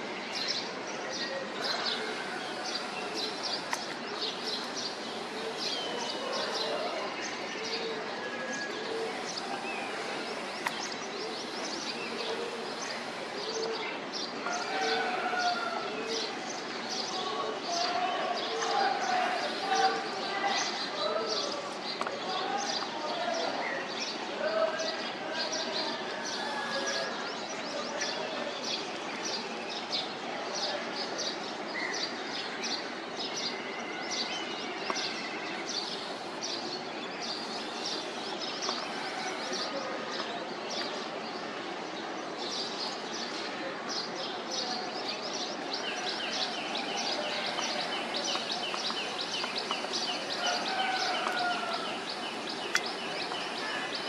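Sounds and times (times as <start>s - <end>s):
outdoor background noise: 0.0s - 54.0s
small birds chirping: 0.2s - 7.8s, 8.6s - 24.2s, 31.2s - 41.4s, 42.4s - 54.0s.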